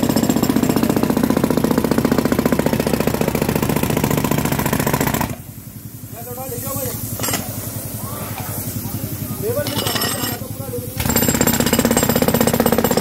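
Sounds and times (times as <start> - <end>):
jackhammer hammering: 0.0 - 5.6, 6.2 - 7.9, 8.9 - 13.0.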